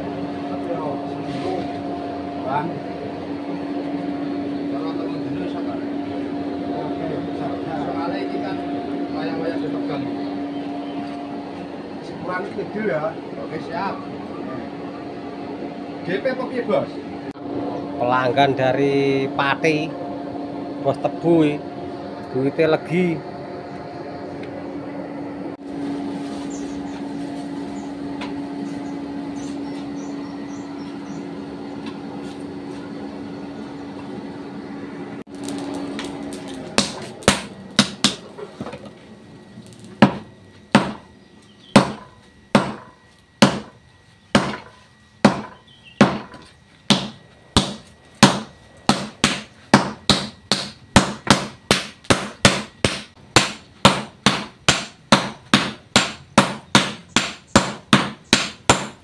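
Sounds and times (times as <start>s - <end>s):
air blower humming: 0.0s - 59.0s.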